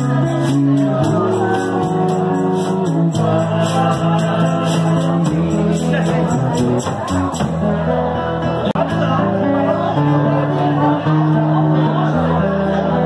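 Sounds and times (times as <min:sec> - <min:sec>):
man singing into a microphone: 0:00.0 - 0:11.2
acoustic guitar strumming: 0:00.0 - 0:13.0.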